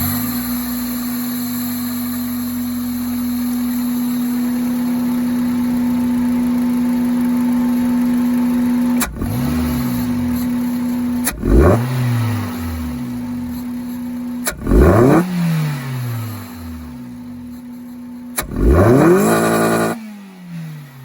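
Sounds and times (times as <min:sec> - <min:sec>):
car engine droning and revving: 0:00.0 - 0:21.0.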